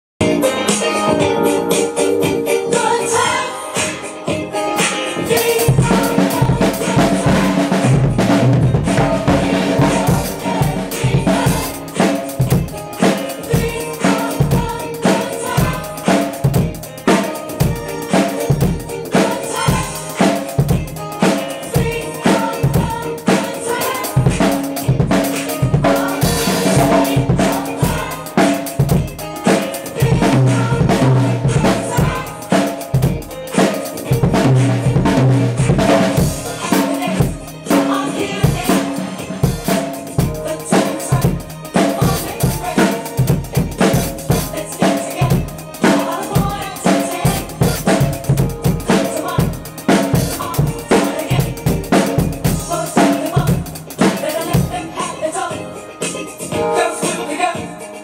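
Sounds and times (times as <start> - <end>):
drum kit groove: 0.2 - 58.0.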